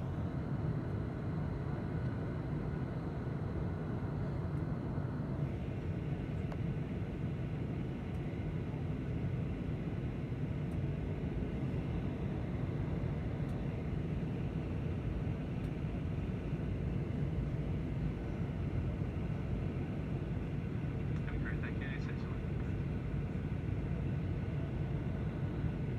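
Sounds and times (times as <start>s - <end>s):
airliner engines rumbling: 0.0s - 25.9s.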